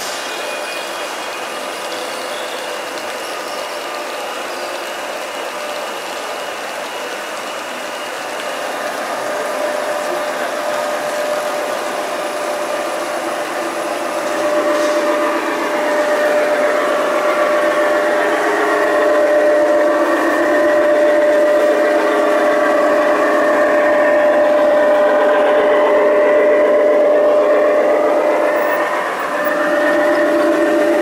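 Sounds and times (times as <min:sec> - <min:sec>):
locomotive hum: 0:00.0 - 0:31.0
model train motors whirring: 0:00.0 - 0:31.0.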